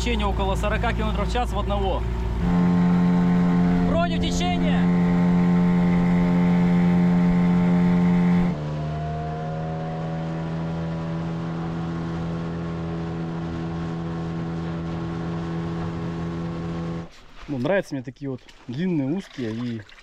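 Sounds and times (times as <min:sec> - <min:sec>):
outboard motor droning: 0:00.0 - 0:17.4.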